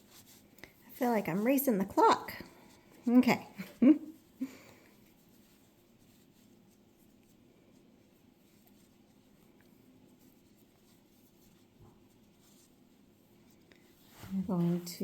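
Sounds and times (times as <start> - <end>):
low room hum: 0.0 - 15.0
yarn and crochet hook rustling: 0.0 - 15.0.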